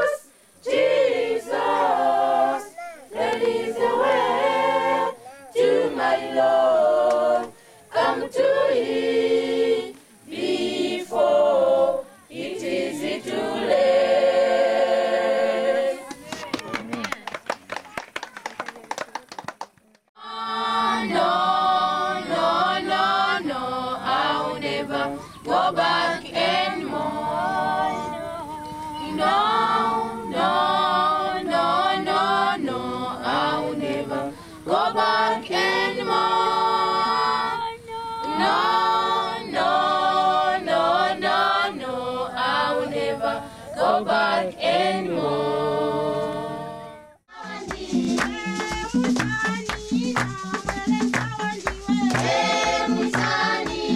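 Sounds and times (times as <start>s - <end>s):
unaccompanied choir singing: 0.0s - 16.4s, 20.2s - 53.9s.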